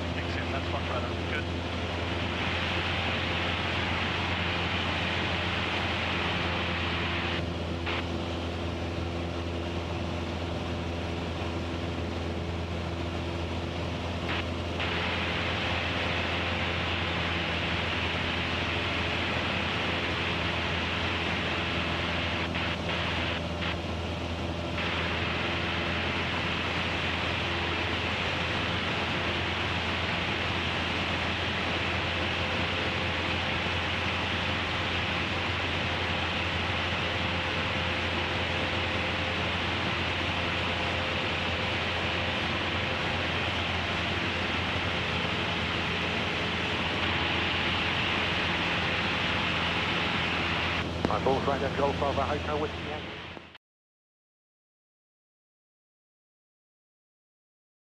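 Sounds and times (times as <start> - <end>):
light aircraft engine droning: 0.0 - 53.6.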